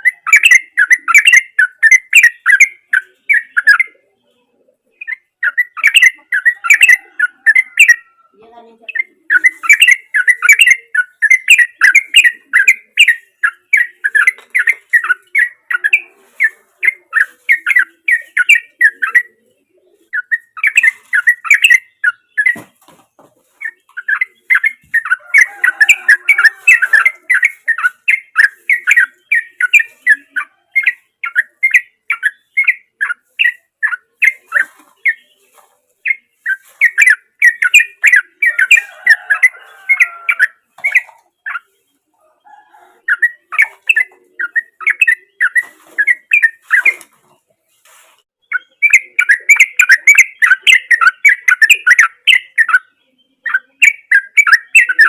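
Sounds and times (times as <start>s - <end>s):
bird singing rapid chirps: 0.0s - 4.0s, 4.9s - 8.1s, 8.7s - 19.4s, 20.0s - 42.0s, 43.0s - 47.1s, 48.4s - 55.0s.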